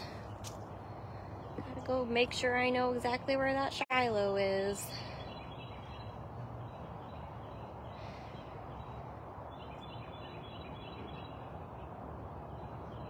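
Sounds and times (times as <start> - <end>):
birds calling faintly: 0.0 - 13.0.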